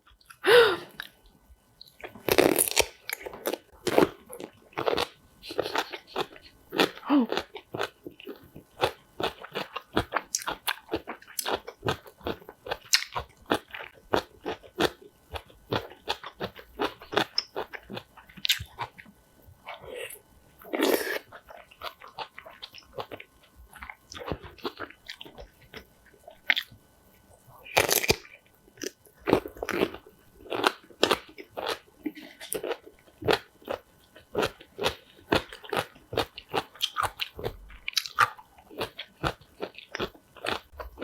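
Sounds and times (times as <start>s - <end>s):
crunching and chewing food: 0.0s - 41.0s.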